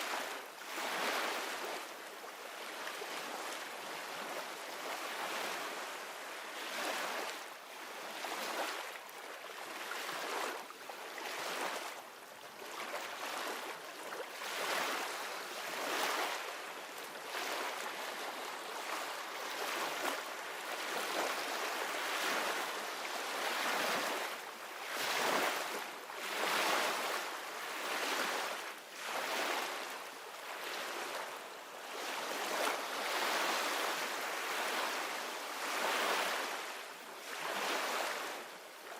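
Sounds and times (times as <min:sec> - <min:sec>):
ocean surf waves: 0:00.0 - 0:01.9, 0:02.7 - 0:08.9, 0:14.4 - 0:38.5.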